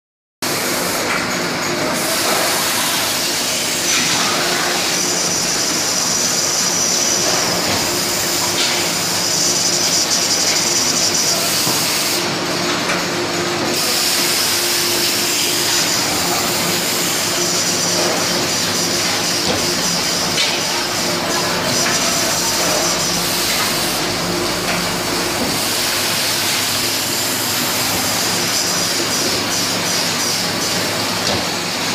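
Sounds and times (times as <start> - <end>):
constant machinery hiss: 0.4 - 31.9
high machinery whine: 0.4 - 31.9.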